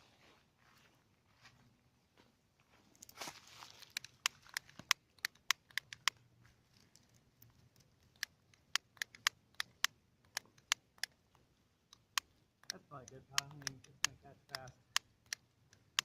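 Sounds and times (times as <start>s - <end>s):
kindling crackling and popping: 3.0s - 16.0s.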